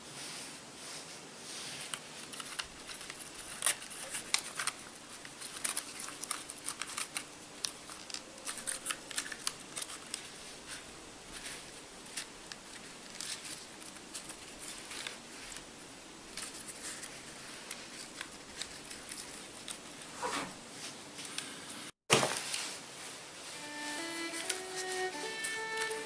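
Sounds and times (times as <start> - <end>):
bark strips crackling and rustling: 1.8 - 22.8, 23.4 - 26.0.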